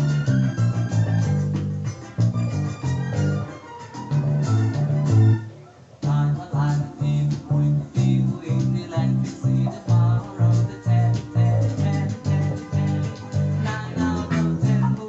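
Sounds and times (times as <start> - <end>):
backing track music: 0.0 - 15.0
finger-plucked bass guitar line: 0.0 - 15.0.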